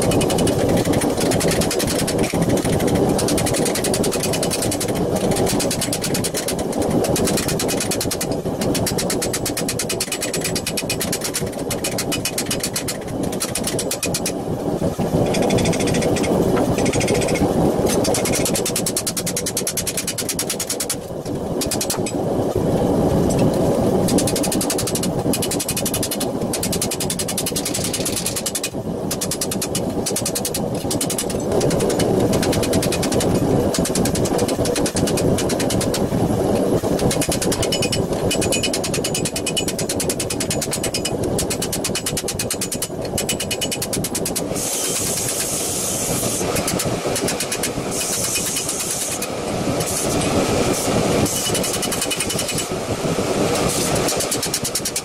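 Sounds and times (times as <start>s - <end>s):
machine drone: 0.0s - 55.0s.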